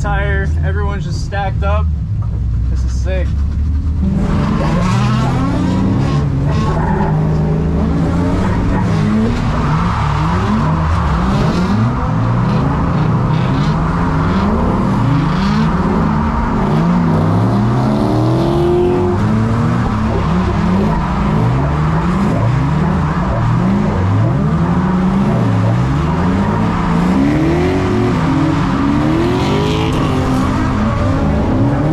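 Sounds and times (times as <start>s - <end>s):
car engines revving: 0.0s - 31.9s
tyres skidding and squealing: 2.4s - 31.9s.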